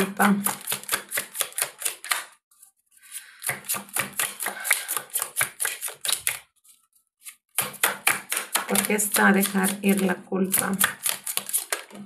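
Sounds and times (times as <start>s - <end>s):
cards being shuffled: 0.4s - 2.4s, 3.0s - 12.0s.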